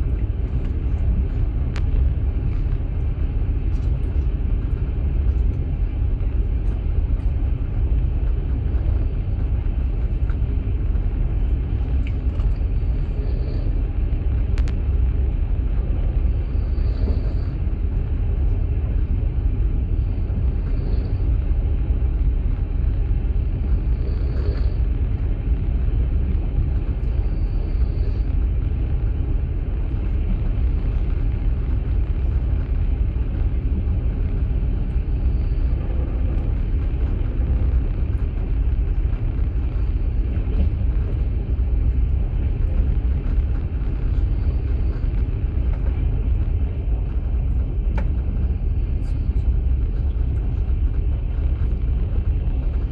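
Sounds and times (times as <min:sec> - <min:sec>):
train carriage rumbling: 0:00.0 - 0:52.9.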